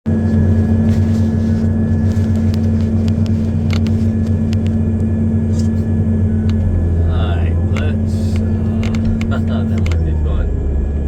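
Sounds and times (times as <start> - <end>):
diesel engine running steadily: 0.0 - 11.0.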